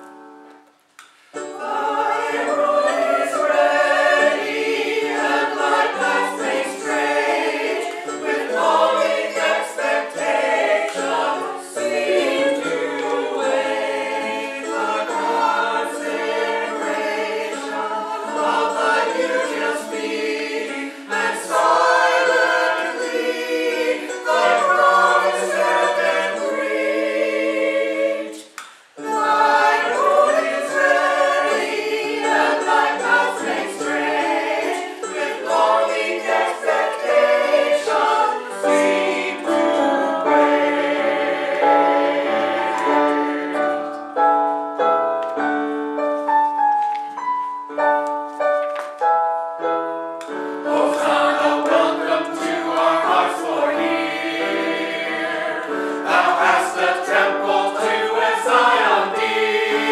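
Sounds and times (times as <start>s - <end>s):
church choir singing: 1.3s - 47.0s, 49.6s - 59.9s.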